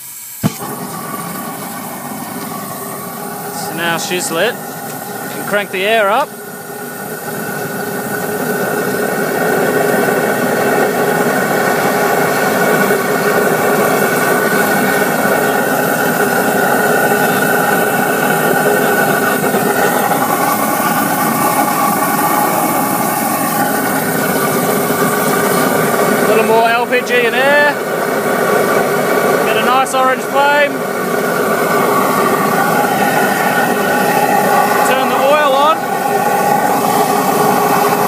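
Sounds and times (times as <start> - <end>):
burner flame and air rushing: 0.0 - 26.6, 27.3 - 38.0.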